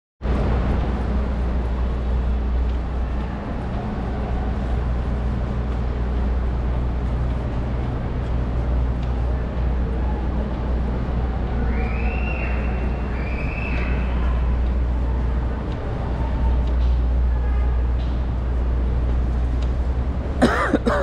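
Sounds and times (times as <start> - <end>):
low rumble of traffic: 0.2 - 21.0
urban hum: 0.2 - 21.0.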